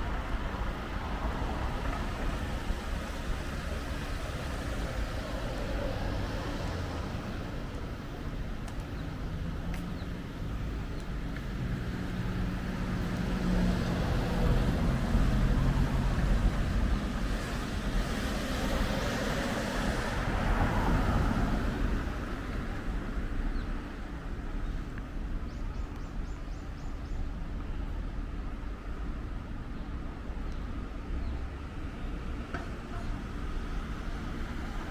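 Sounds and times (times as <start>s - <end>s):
low rumble of road noise: 0.0s - 34.9s
vehicle engine and tyre noise: 0.0s - 34.9s.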